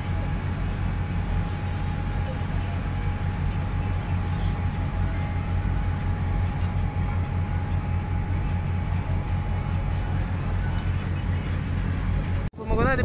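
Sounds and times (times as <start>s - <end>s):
faint steady whine: 0.0s - 13.0s
ferry engines rumbling: 0.0s - 13.0s.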